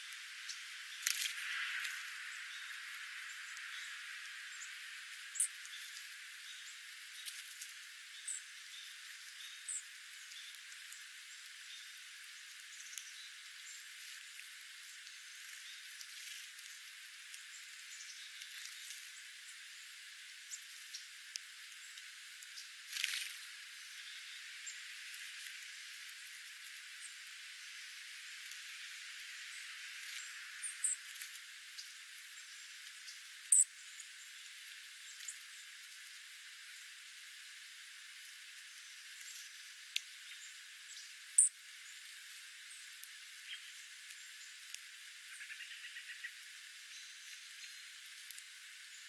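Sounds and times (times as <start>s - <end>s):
songbird chip call: 0.0s - 35.9s, 38.5s - 49.0s
birds pecking seed: 0.0s - 49.0s
steady hiss: 0.0s - 49.0s.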